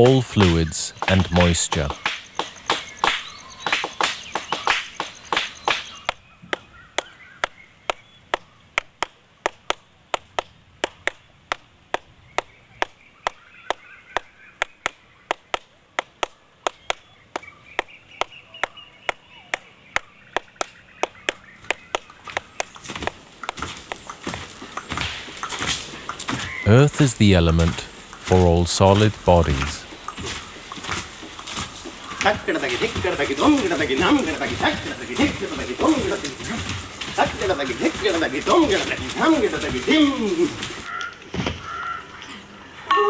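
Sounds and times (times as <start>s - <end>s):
sharp dry taps: 0.0s - 37.5s.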